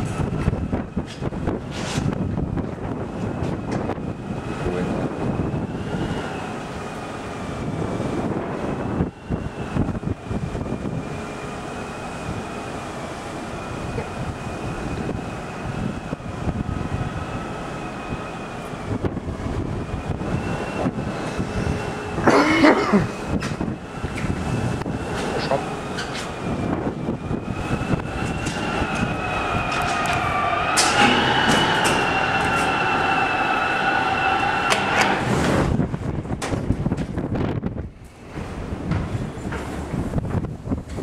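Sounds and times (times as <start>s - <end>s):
low ship machinery rumble: 0.0s - 41.0s
wind buffeting microphone: 0.0s - 41.0s.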